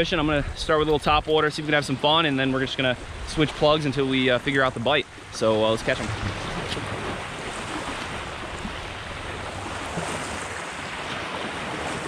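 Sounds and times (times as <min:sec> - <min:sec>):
rushing water: 0:00.0 - 0:12.0
wind: 0:00.0 - 0:12.0.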